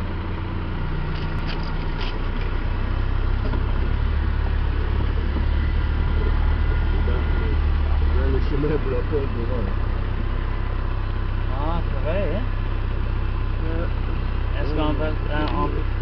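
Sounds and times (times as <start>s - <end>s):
car engine droning: 0.0s - 16.0s
branches scraping vehicle: 0.7s - 16.0s.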